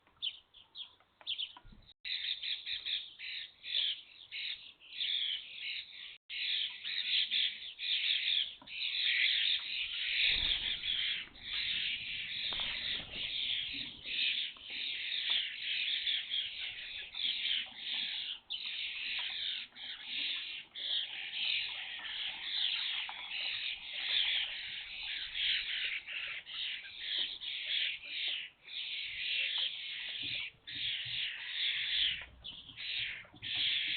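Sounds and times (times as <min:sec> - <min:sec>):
starlings chattering: 0:00.2 - 0:33.9.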